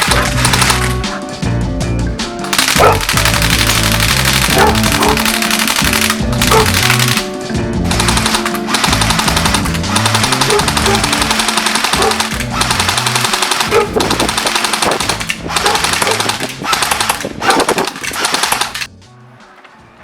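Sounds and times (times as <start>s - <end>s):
airsoft rifle firing bursts: 0.0s - 1.2s, 2.4s - 18.9s.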